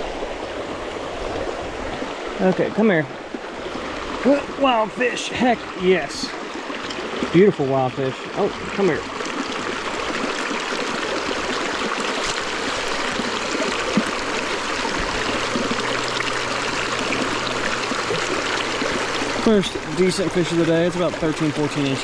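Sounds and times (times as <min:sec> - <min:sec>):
stream water flowing: 0:00.0 - 0:22.0.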